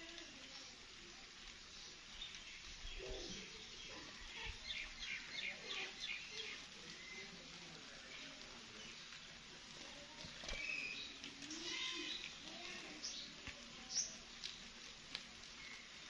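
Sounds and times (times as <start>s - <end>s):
faint outdoor background: 0.0s - 16.0s.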